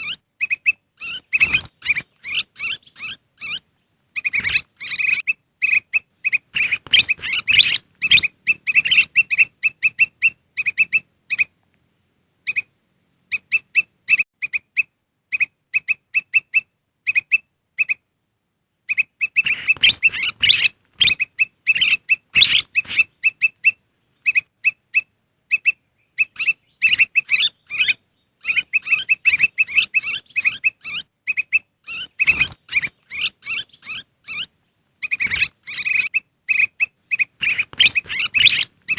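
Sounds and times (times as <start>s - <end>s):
bird chirping rapidly: 0.0s - 11.6s, 12.4s - 12.7s, 13.3s - 18.0s, 18.9s - 38.9s.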